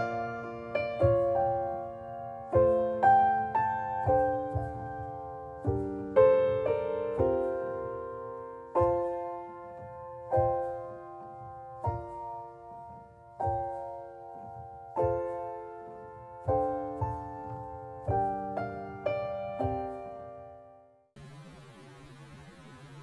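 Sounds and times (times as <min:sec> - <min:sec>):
gentle piano chords: 0:00.0 - 0:21.0.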